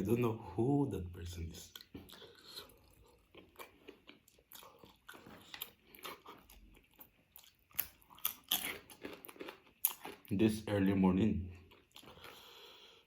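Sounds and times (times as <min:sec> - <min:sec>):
chewing and crunching food: 0:01.6 - 0:10.6, 0:11.5 - 0:13.0.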